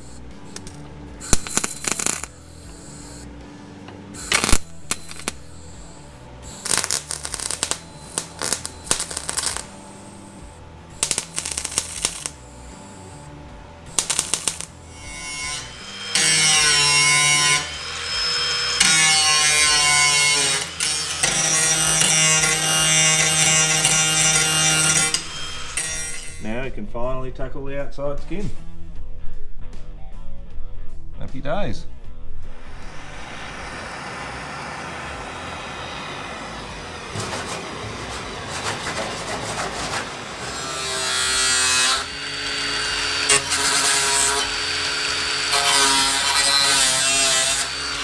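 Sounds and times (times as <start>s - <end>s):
welder crackling: 0.0s - 3.4s, 4.0s - 26.5s, 32.5s - 48.0s
angle grinder grinding: 0.0s - 26.5s, 32.5s - 48.0s.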